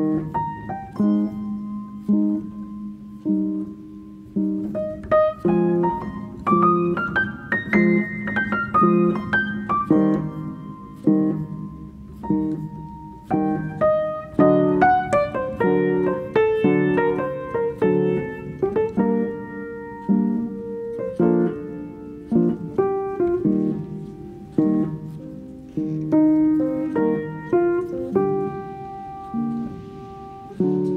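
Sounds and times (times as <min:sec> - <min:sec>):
piano music: 0:00.0 - 0:30.9.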